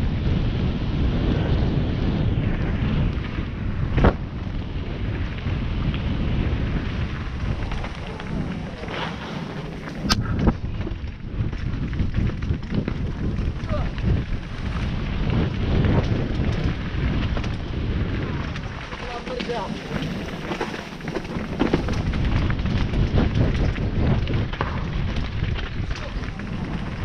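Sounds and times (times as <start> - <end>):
mountain bike rumbling and rattling: 0.0 - 27.0
wind buffeting microphone: 0.0 - 27.0.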